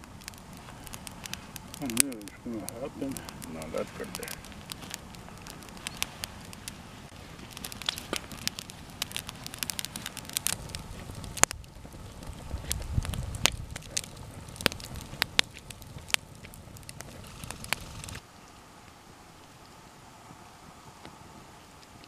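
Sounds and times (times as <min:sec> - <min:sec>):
low rumble: 0:00.0 - 0:18.2
campfire crackling and popping: 0:00.0 - 0:22.0
hiss of burning logs: 0:00.0 - 0:22.0.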